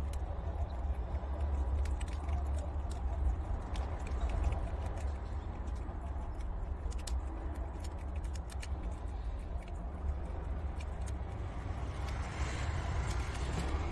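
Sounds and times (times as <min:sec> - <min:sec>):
animals chewing crunchy treat: 0:00.0 - 0:13.9
steady low rumble: 0:00.0 - 0:13.9.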